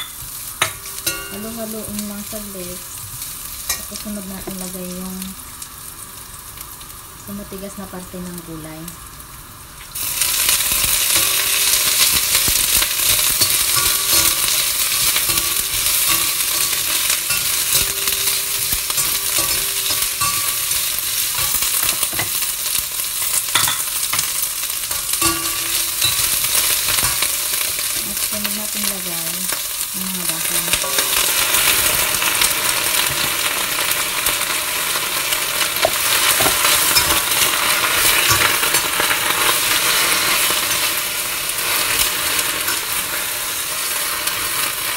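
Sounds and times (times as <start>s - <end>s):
vegetables sizzling in oil: 0.0s - 44.9s.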